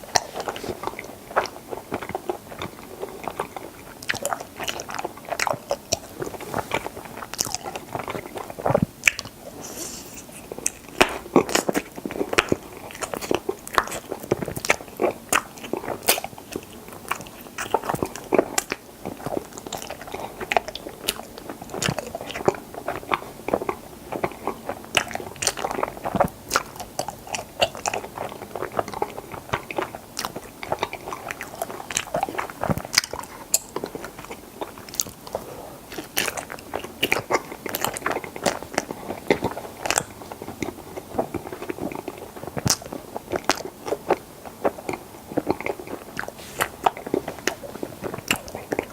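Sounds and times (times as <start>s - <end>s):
biting and chewing: 0.0s - 48.9s.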